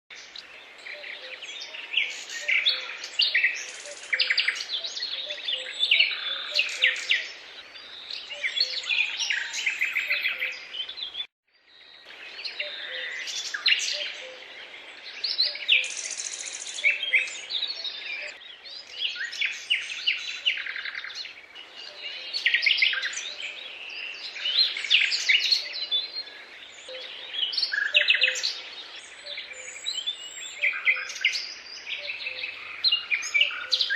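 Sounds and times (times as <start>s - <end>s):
small birds chirping and singing: 0.1s - 33.9s.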